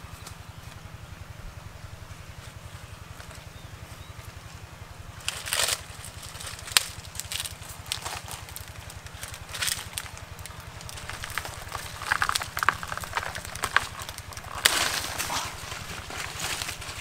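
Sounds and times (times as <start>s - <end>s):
dry leaves crackling: 0.0s - 17.0s.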